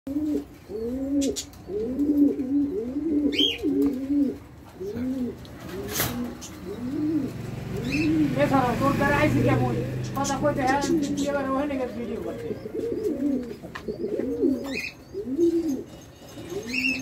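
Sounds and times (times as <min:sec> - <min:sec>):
pigeons cooing: 0:00.1 - 0:17.0.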